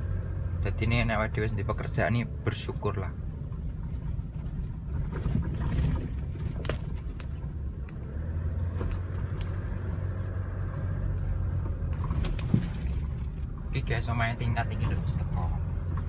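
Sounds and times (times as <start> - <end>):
low engine drone: 0.0 - 16.0
truck engine and road rumble: 0.0 - 16.0.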